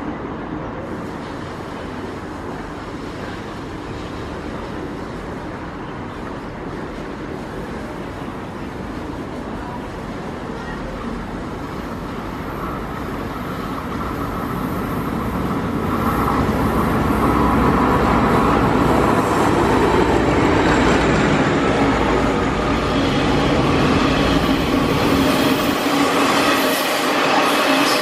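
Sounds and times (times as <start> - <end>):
diesel locomotive passing: 0.0 - 28.0.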